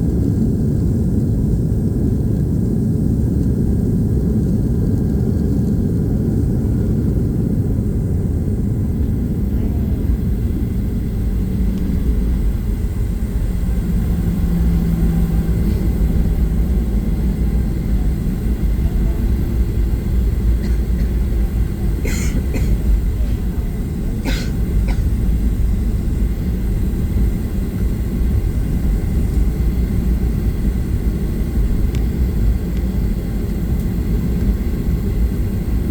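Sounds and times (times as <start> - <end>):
aircraft cabin rumble: 0.0 - 35.9.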